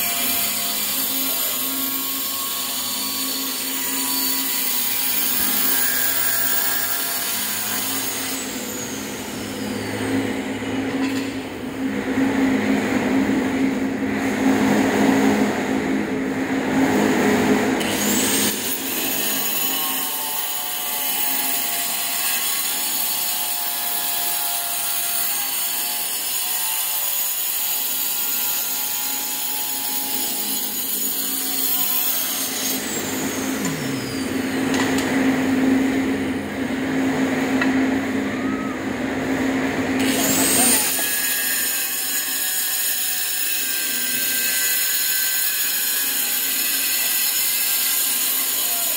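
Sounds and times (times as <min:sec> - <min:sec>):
angle grinder cutting tile: 0:00.0 - 0:11.6, 0:17.0 - 0:36.2, 0:40.0 - 0:48.9.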